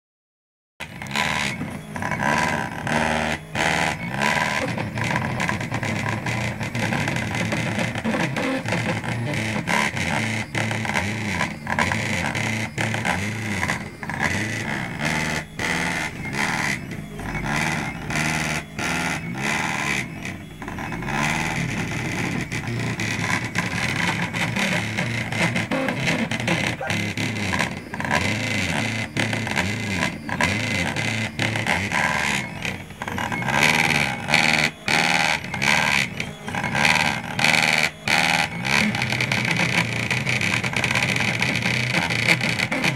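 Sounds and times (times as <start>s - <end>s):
distorted electric guitar music: 0.8s - 42.9s.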